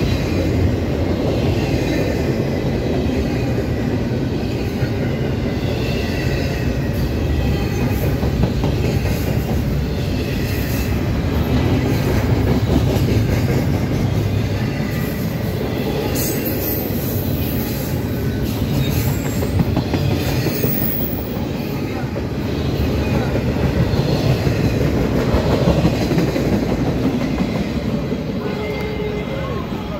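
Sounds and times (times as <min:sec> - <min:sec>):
steel wheels rumbling on rail: 0:00.0 - 0:29.9.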